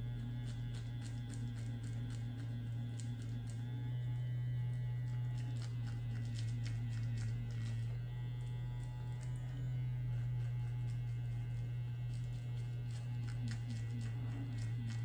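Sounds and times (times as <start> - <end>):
facial cleanser buzzing: 0.0 - 15.0
faint irregular ticks: 0.0 - 15.0.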